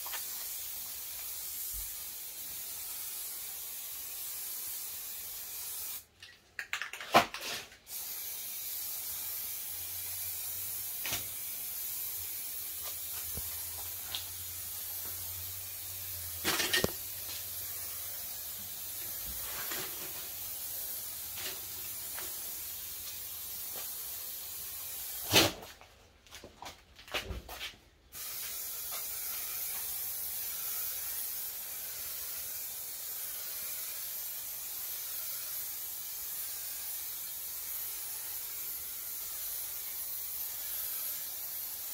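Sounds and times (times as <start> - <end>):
spray paint can hissing: 0.0 - 25.7, 28.1 - 41.9.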